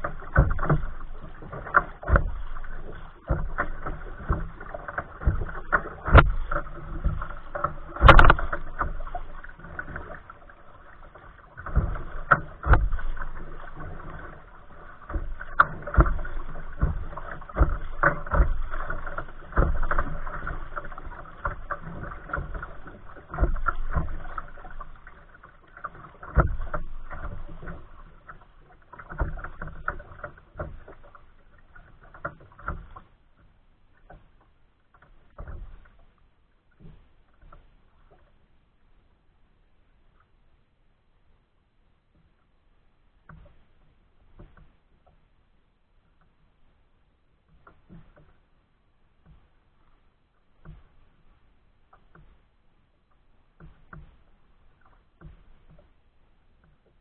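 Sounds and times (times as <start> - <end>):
water slapping against kayak hull: 0.0 - 39.1, 42.0 - 57.0
paddle strokes: 0.0 - 57.0.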